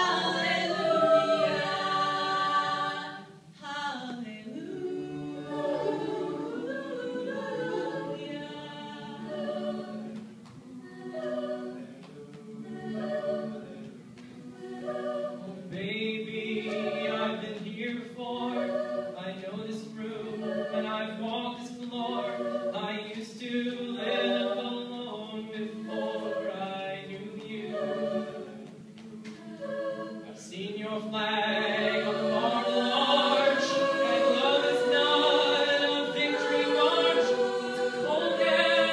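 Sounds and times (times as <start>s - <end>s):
a cappella group singing: 0.0s - 38.9s.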